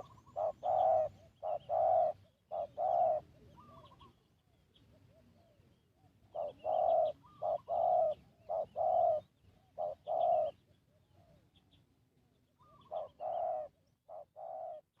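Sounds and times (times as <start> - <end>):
dove cooing: 0.0 - 11.4, 12.6 - 15.0
small birds chirping: 0.0 - 15.0.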